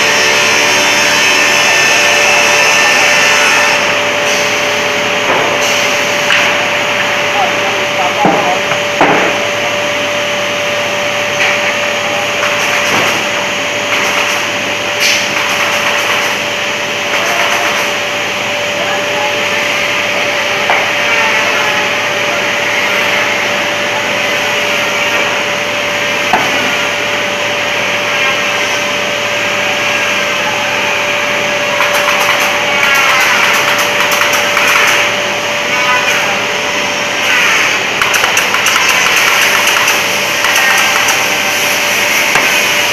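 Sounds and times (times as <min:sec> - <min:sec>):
factory machinery hum: 0:00.0 - 0:42.9.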